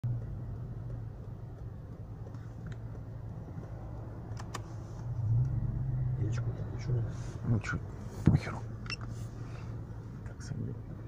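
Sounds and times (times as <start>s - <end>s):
car engine low hum: 0.0s - 11.0s.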